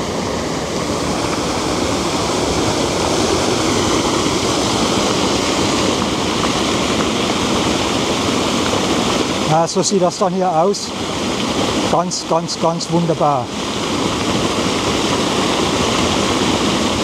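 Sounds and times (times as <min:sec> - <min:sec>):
waterfall rushing over stone steps: 0:00.0 - 0:17.0.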